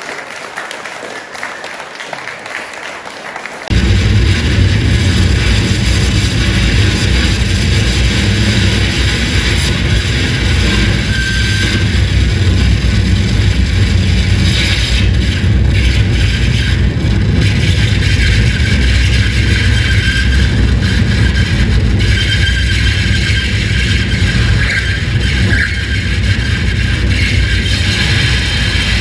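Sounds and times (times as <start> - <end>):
distorted electronic noise: 3.7 - 29.0.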